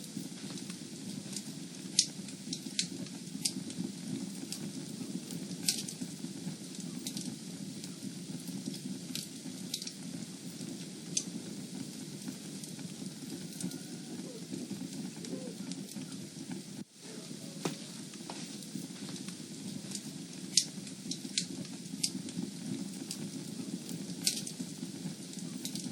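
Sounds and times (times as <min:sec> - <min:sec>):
fire crackling: 0:00.0 - 0:25.9.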